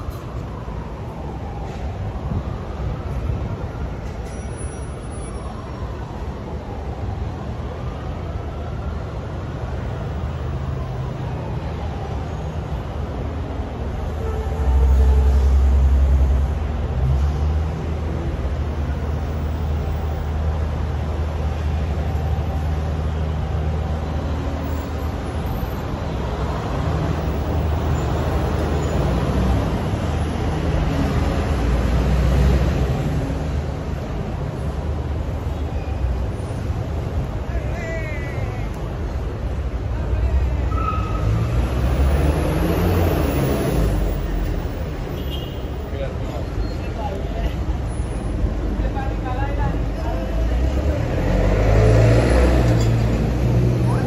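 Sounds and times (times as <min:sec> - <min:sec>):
rumble of passing vehicles: 0:00.0 - 0:54.0.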